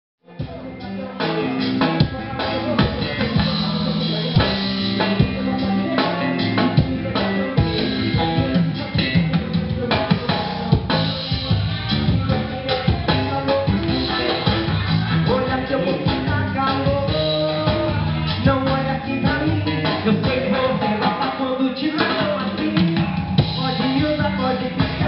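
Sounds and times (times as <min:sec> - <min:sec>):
live band playing: 0:00.2 - 0:25.0
drum kit hits: 0:00.4 - 0:21.4, 0:22.0 - 0:25.0.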